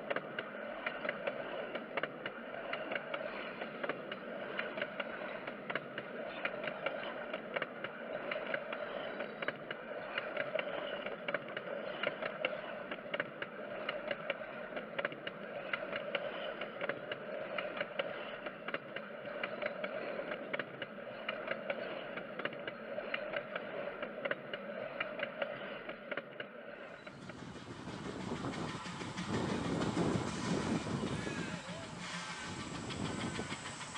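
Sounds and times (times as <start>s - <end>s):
train wheels rumbling on rails: 0.0s - 33.9s
wheels clicking and clanking: 0.0s - 33.9s.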